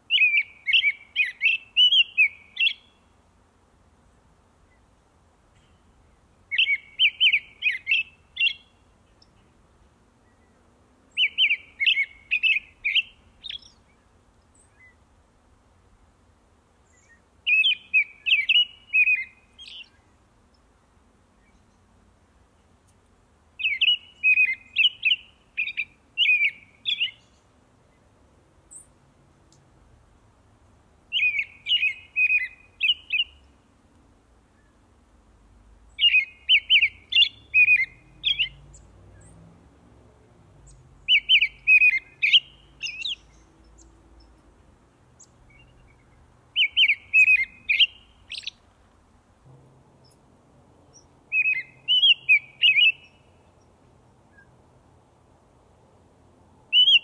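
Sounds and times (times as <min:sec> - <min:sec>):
songbird chirping phrase: 0:00.0 - 0:03.3, 0:04.2 - 0:15.1, 0:16.8 - 0:30.0, 0:31.1 - 0:33.8, 0:35.7 - 0:48.8, 0:49.5 - 0:55.0, 0:56.4 - 0:57.0.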